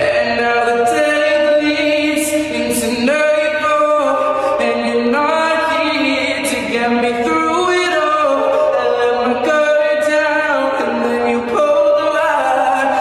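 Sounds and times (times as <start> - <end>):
wordless layered singing voices: 0.0 - 13.0.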